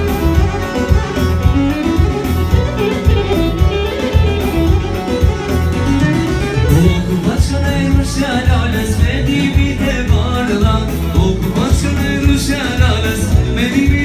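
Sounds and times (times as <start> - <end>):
amplified live wedding band music: 0.0 - 14.0
melodic lead line: 0.0 - 14.0
pulsing bass beat: 0.0 - 14.0.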